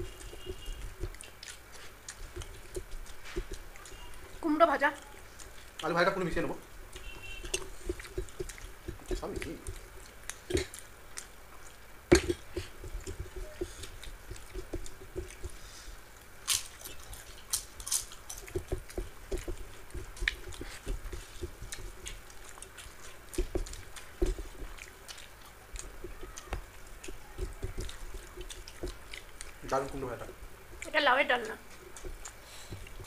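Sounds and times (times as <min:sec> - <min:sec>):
hands mixing rice on steel plates: 0:00.0 - 0:16.0, 0:16.8 - 0:33.0
chewing: 0:00.0 - 0:33.0.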